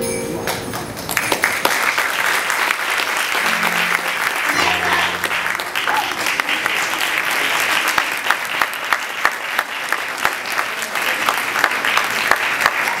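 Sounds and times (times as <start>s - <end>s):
audience applauding: 0.5s - 13.0s.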